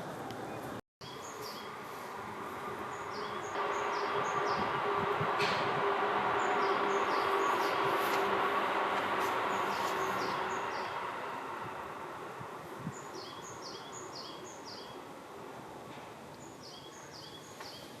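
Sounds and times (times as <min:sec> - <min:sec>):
bird high falling calls: 0:00.5 - 0:15.1.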